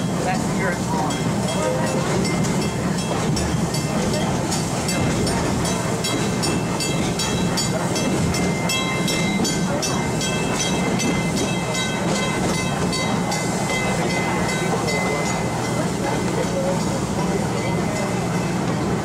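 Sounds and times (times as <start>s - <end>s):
steam train rumbling and chuffing: 0.0s - 19.0s.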